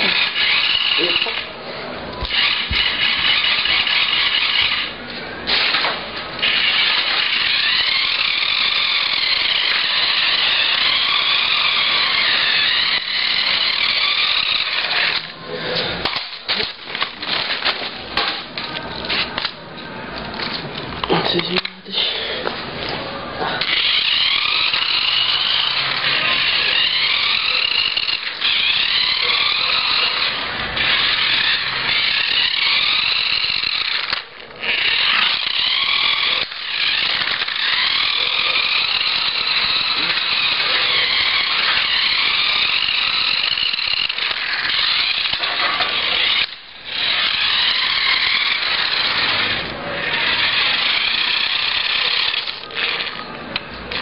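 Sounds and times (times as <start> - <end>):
toy car motor whining: 0.0 - 1.6, 2.2 - 18.4, 23.6 - 54.0.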